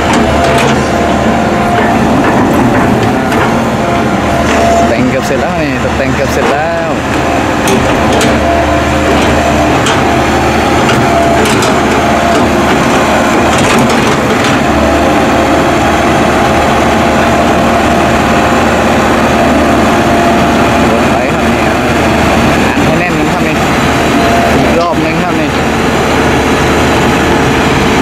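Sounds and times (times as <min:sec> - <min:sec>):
excavator diesel engine and hydraulics: 0:00.0 - 0:28.0
high whine: 0:00.0 - 0:28.0.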